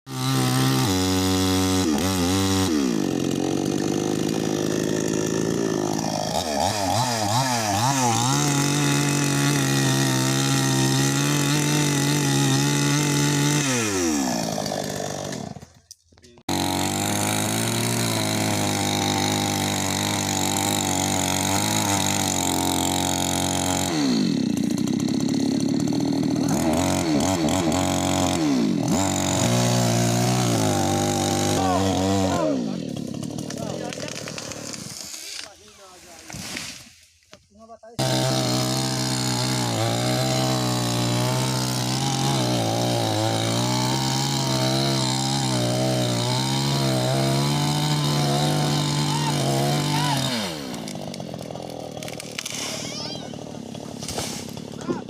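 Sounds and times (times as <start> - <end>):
chainsaw running and cutting: 0.1 - 36.7, 38.0 - 55.0.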